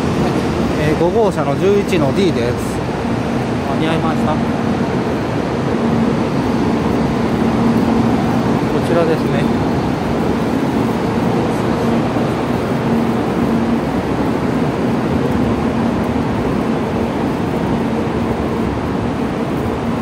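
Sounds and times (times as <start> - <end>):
train rushing noise with hum: 0.0 - 20.0.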